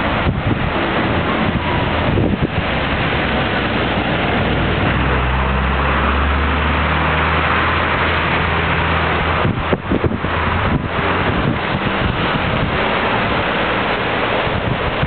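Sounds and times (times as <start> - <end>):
rushing whitewater: 0.0 - 15.0
vehicle engine humming: 0.0 - 15.0.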